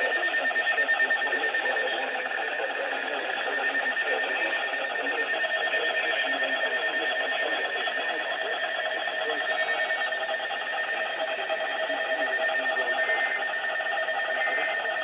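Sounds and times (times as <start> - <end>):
shrill rapid beeping tone: 0.0 - 15.0.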